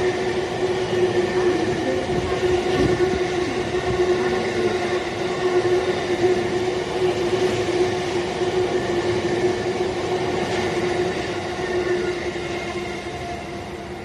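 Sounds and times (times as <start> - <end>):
electric train hum: 0.0 - 14.0
train wheels on rails: 0.0 - 14.0.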